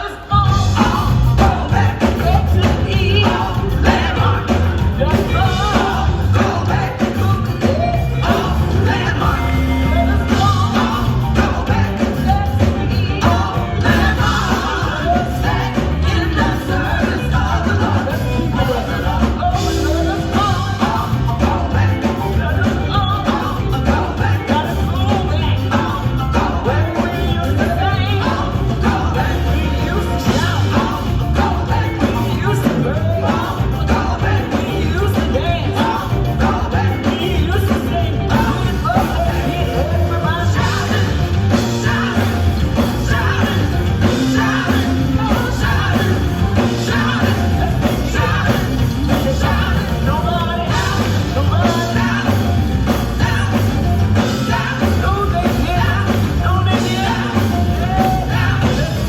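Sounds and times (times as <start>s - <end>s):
band with bass and drums: 0.0s - 59.0s
vocal group singing: 0.0s - 59.0s.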